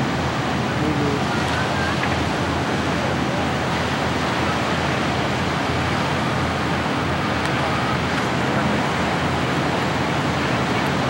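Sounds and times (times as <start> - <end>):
surf breaking on beach: 0.0 - 11.0.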